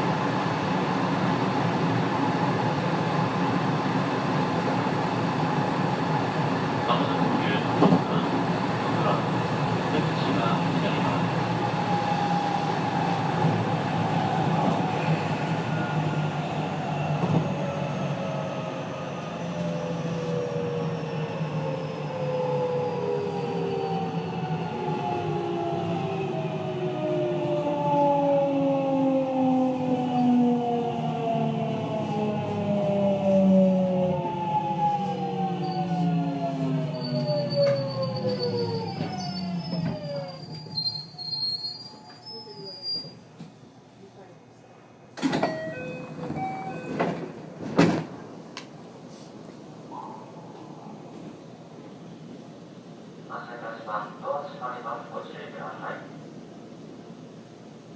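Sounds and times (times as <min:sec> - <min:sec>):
train rolling rumble: 0:00.0 - 0:29.4, 0:30.0 - 0:43.6, 0:45.2 - 0:57.9.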